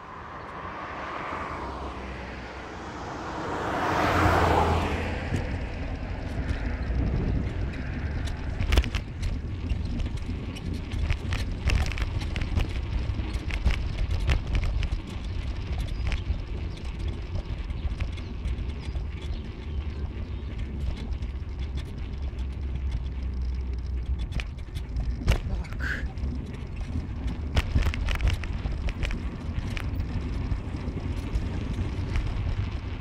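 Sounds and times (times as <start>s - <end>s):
car road and engine rumble: 0.0s - 33.0s
knocks and rattles: 2.9s - 33.0s.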